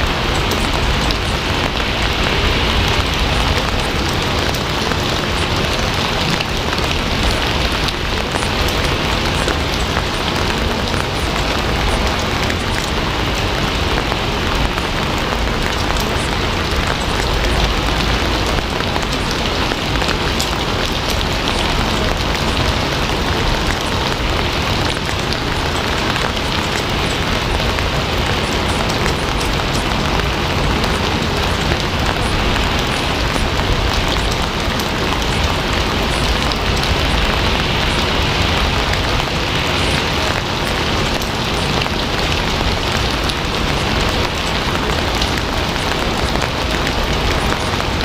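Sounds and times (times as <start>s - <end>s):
heavy rain: 0.0s - 48.0s.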